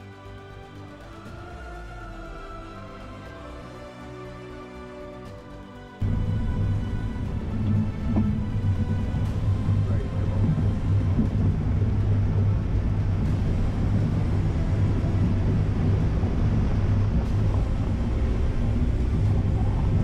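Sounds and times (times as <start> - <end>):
faint music: 0.0 - 20.0.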